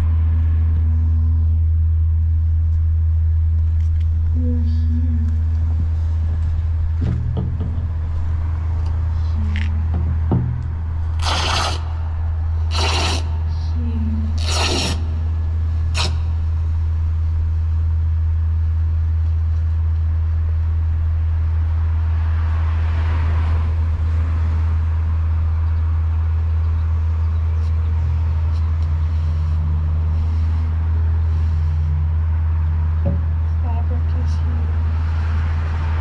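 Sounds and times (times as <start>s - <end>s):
car passing: 0.0s - 36.0s
steady low hum: 0.0s - 36.0s.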